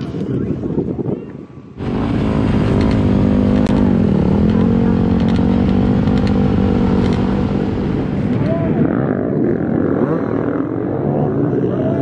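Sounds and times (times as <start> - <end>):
many dirt bike engines running: 0.0 - 12.0.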